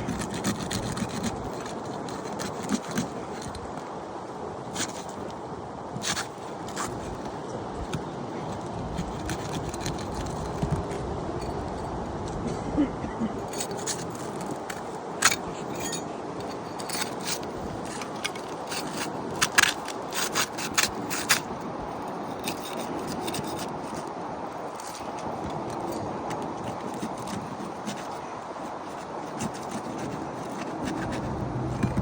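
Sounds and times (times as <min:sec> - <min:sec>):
hand tool scraping shingles: 0:00.0 - 0:03.9, 0:04.7 - 0:05.2, 0:06.0 - 0:11.6, 0:13.4 - 0:32.0.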